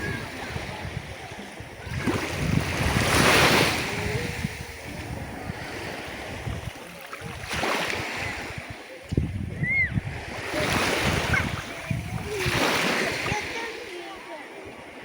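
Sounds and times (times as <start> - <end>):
wind buffeting microphone: 0.0 - 13.8
sea water washing and splashing: 0.0 - 15.0.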